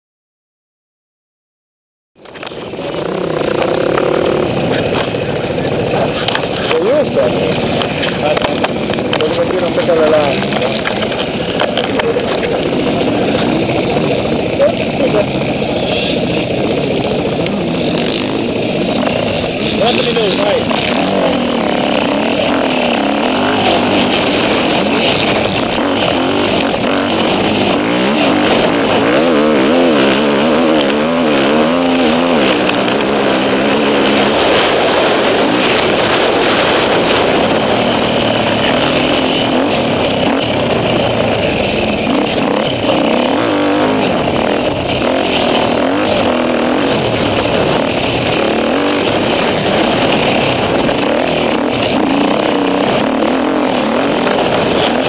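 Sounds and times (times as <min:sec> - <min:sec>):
motorcycle engine revving: 0:02.2 - 0:55.0.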